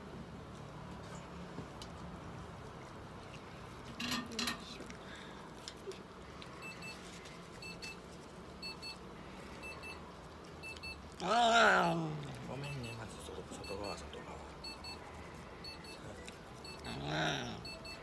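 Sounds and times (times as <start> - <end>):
faint steady hum: 2.2 - 18.0.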